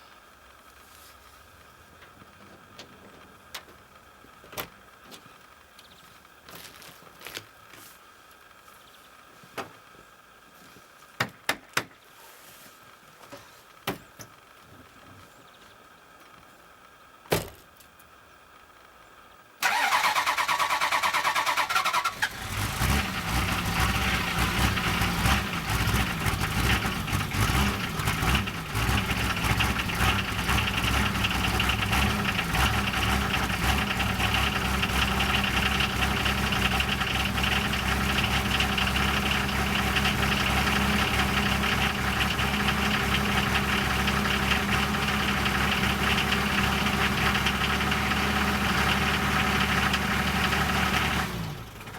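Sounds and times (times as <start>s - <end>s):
diesel engine idling: 0.0s - 10.4s, 18.5s - 51.9s.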